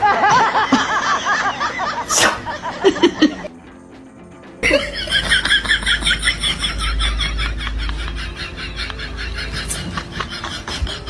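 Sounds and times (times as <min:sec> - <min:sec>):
laughter: 0:00.0 - 0:03.5, 0:04.6 - 0:11.0
low hum: 0:00.0 - 0:11.0
music: 0:00.0 - 0:11.0.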